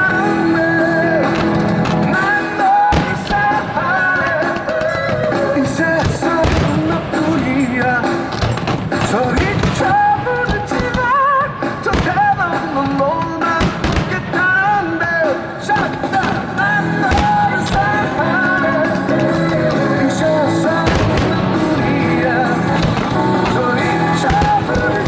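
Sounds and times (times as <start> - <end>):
firework bangs: 0.0 - 25.0
loud music with singing: 0.0 - 25.0.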